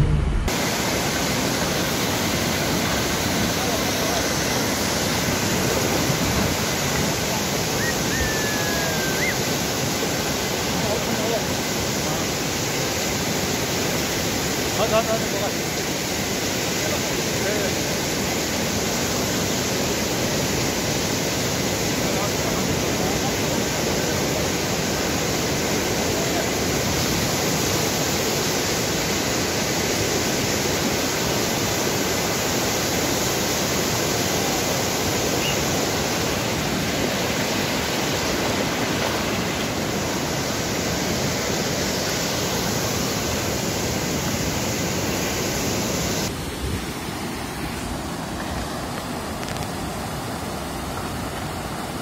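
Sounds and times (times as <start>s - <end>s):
water rushing over rocks: 0.0s - 52.0s.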